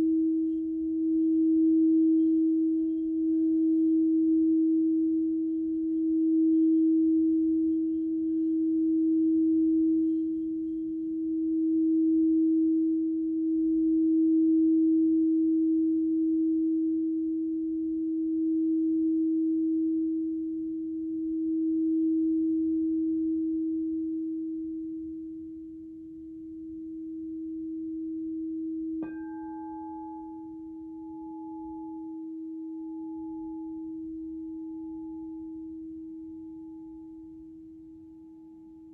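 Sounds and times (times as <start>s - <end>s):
singing bowl sustained tone: 0.0s - 38.9s.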